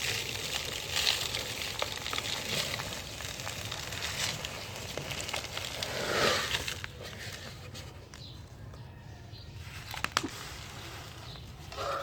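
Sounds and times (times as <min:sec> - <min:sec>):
dry dirt crumbling and crackling: 0:00.0 - 0:12.0.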